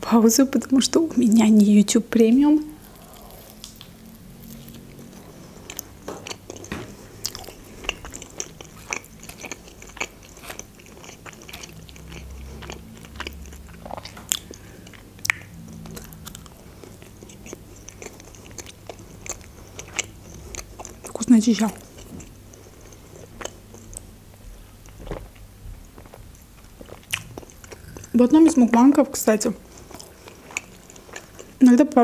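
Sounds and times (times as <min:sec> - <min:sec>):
person chewing with mouth smacks: 0:02.7 - 0:28.7, 0:29.5 - 0:31.6.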